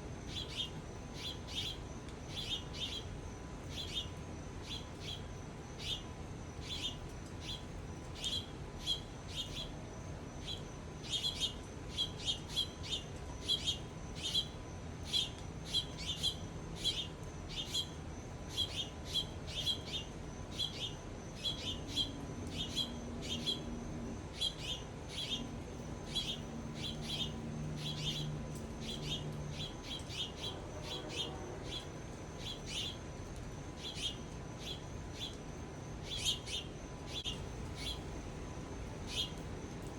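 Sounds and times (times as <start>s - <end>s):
small birds chirping: 0.3s - 9.8s, 10.4s - 39.9s.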